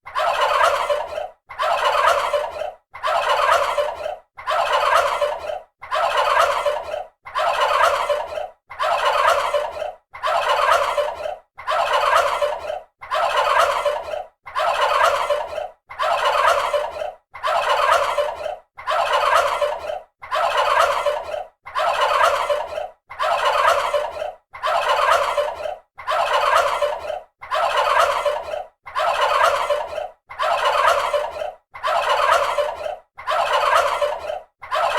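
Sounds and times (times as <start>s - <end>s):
turkey gobbling: 0.1s - 34.9s.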